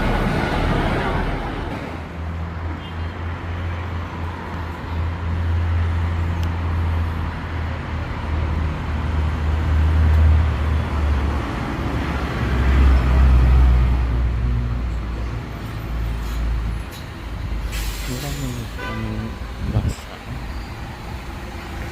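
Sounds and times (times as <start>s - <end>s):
vehicles passing with low rumble: 0.0s - 21.9s.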